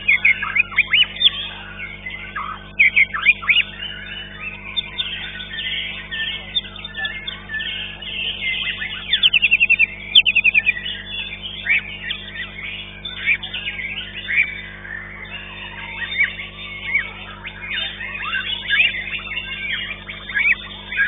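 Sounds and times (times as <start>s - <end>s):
caged birds calling: 0.0s - 21.0s
quick bird trill: 0.0s - 21.0s
songbird singing varied song: 0.0s - 21.0s.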